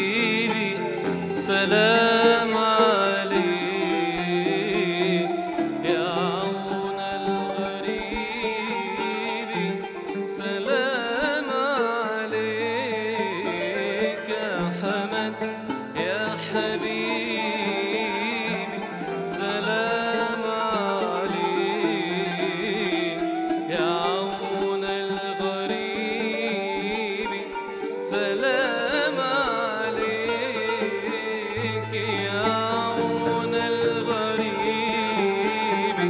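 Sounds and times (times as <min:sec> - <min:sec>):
man singing with vibrato: 0:00.0 - 0:36.0
plucked strings: 0:00.0 - 0:36.0.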